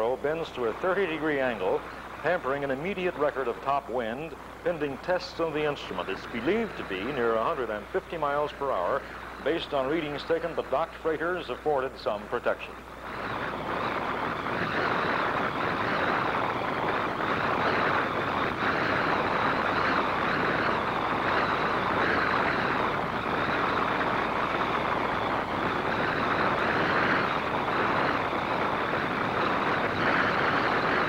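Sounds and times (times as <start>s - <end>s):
wind roaring in gusts: 0.0s - 31.0s.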